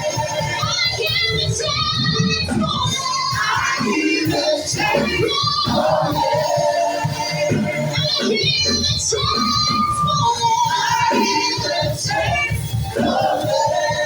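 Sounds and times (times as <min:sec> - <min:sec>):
musical accompaniment: 0:00.0 - 0:14.0
voices singing worship song: 0:00.0 - 0:14.0.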